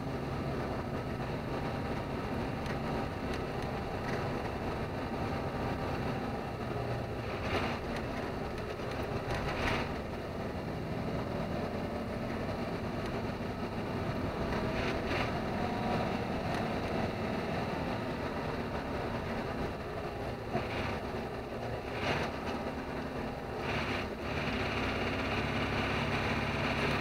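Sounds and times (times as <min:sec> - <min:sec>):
truck engine running: 0:00.0 - 0:27.0
tyres on gravel road: 0:00.0 - 0:27.0.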